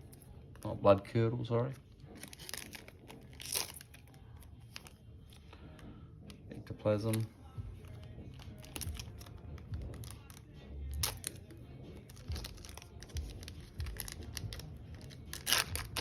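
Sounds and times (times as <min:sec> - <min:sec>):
trading cards rustling: 0:01.6 - 0:16.0.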